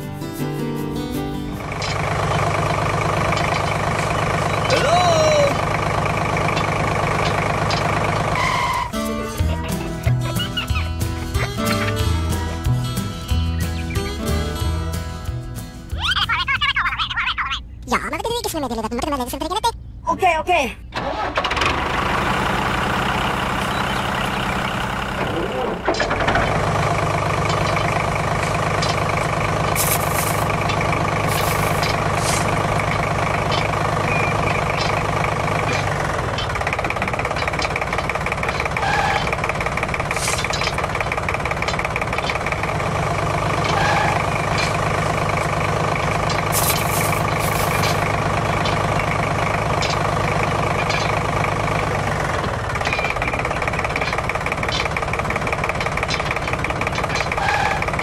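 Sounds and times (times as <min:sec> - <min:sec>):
excavator engine running: 0:00.0 - 0:20.2, 0:20.8 - 0:58.0.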